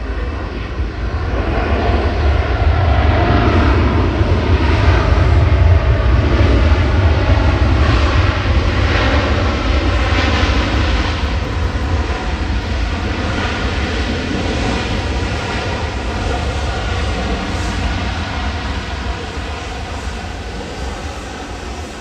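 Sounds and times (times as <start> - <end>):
jet engines at takeoff power: 0.0 - 22.0.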